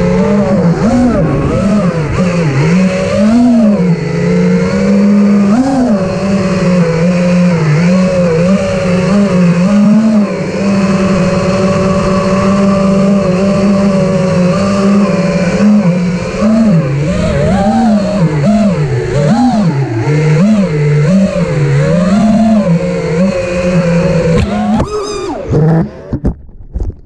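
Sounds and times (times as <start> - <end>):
drone motors whining: 0.0 - 26.4.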